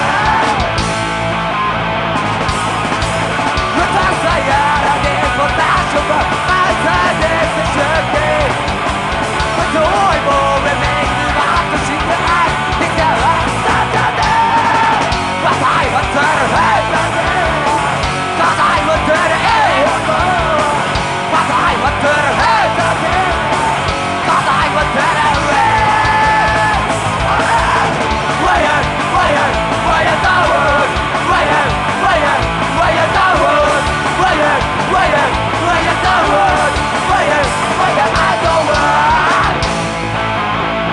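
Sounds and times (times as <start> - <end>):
person shouting singing: 0.0 - 0.8, 3.7 - 8.6, 9.6 - 39.6
punk rock band playing: 0.0 - 40.9.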